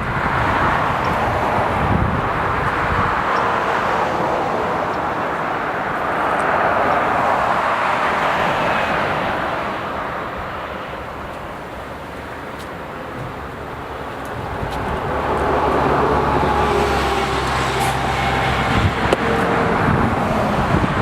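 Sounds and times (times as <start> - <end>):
passing vehicle hiss: 0.0 - 21.0.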